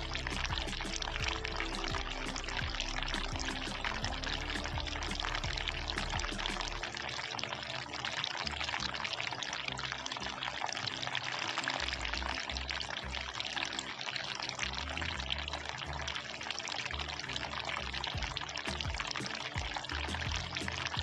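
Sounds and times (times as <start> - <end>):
background music: 0.0 - 21.0
fountain water splashing: 0.0 - 21.0.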